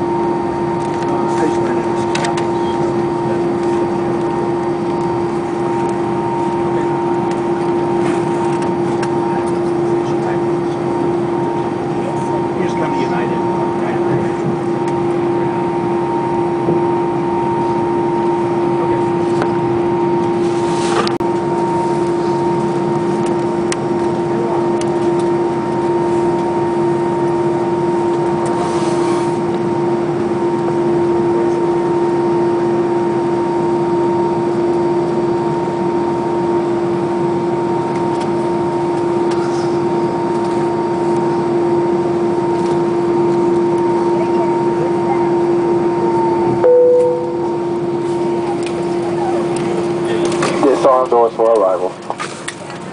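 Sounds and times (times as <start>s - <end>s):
jet engines idling in cabin: 0.0s - 52.9s.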